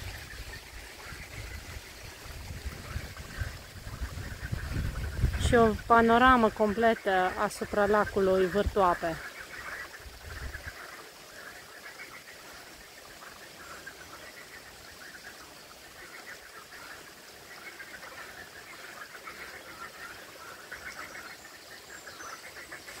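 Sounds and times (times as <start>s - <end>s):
faint outdoor hiss: 0.0s - 23.0s
frogs croaking: 0.0s - 23.0s.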